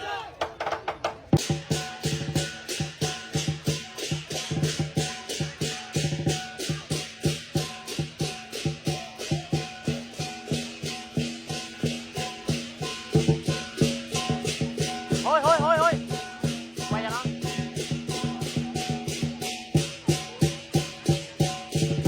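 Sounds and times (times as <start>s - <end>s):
drum strokes: 0.4s - 22.0s
cymbals and gong ringing: 1.4s - 22.0s.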